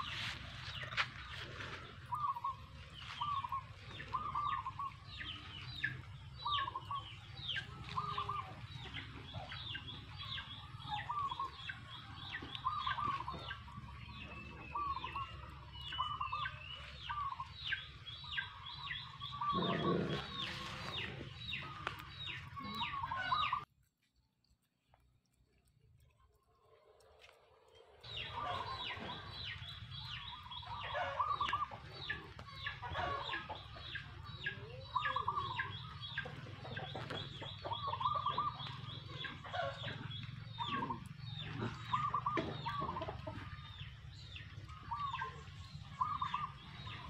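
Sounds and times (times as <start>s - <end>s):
birds calling: 0.0s - 23.7s, 27.7s - 47.0s.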